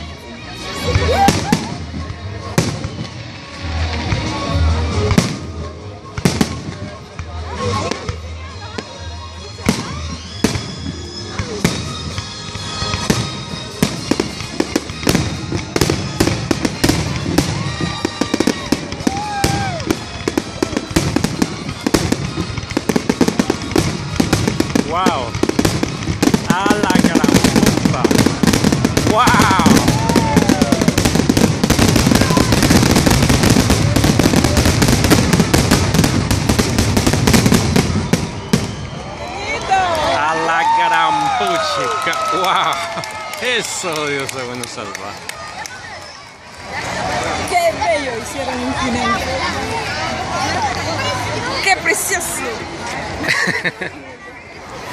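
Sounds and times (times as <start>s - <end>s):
fireworks bursting and crackling: 0.0s - 53.3s.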